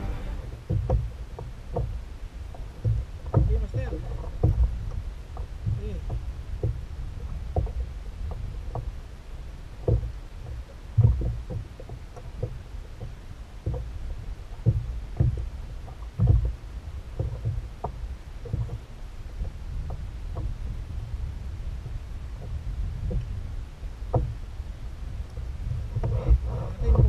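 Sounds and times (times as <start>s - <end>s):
low thuds and knocks: 0.0s - 27.0s
steady low rumble: 0.0s - 27.0s
water lapping against hull: 0.0s - 27.0s.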